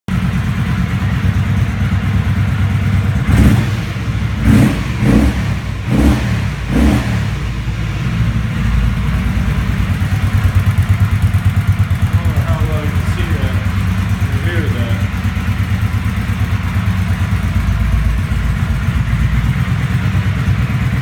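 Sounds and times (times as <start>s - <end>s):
motorcycle engine idling and revving: 0.1s - 21.0s.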